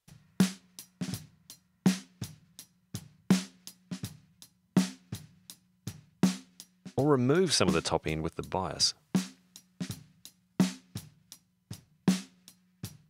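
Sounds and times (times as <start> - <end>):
soft drum and cymbal hits: 0.0 - 8.0, 9.1 - 13.0.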